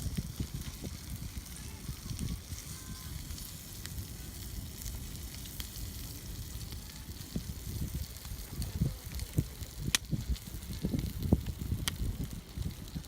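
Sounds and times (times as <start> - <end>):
bacon sizzling on a grill: 0.0 - 13.0
faint fire crackles: 0.0 - 13.0.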